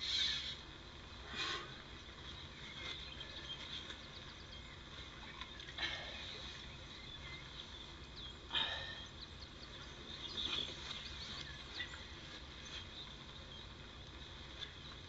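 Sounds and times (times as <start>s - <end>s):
small birds chirping: 1.6s - 15.0s.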